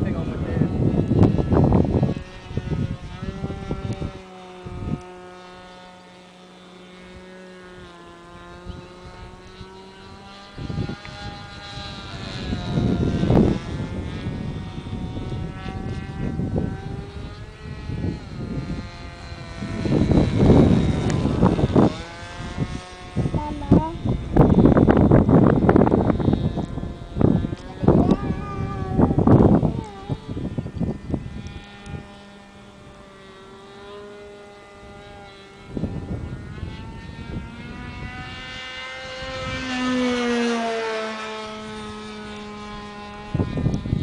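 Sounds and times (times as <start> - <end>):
model aircraft engine whine: 0.0 - 44.0
wind rumble on microphone: 0.0 - 44.0.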